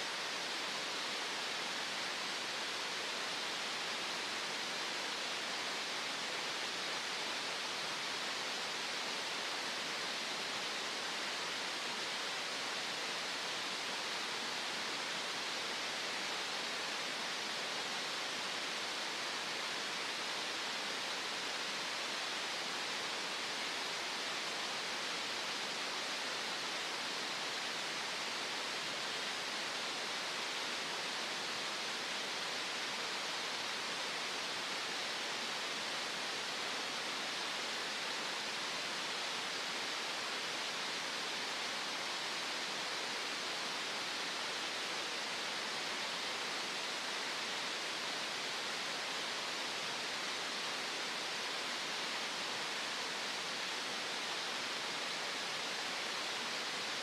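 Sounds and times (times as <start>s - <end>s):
steady synthetic noise hiss: 0.0s - 57.0s.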